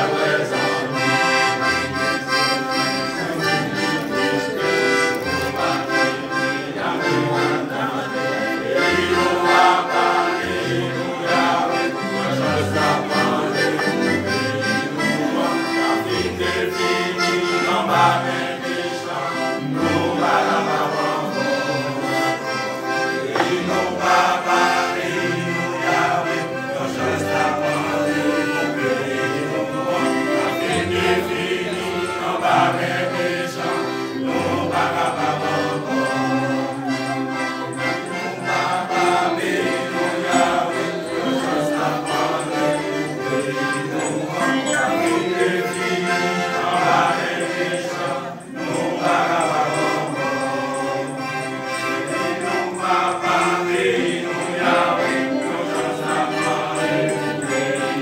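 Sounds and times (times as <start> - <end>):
male choir singing in harmony: 0.0 - 58.0.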